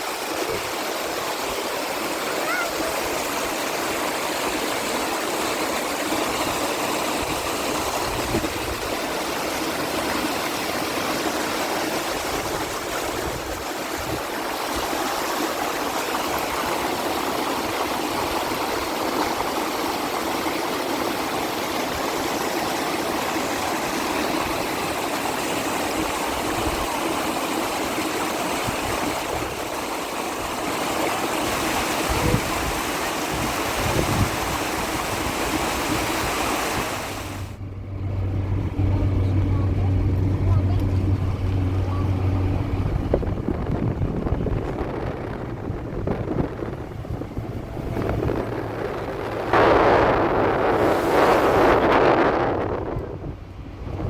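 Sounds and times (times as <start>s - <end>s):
stream water rushing: 0.0s - 37.6s, 38.4s - 54.0s.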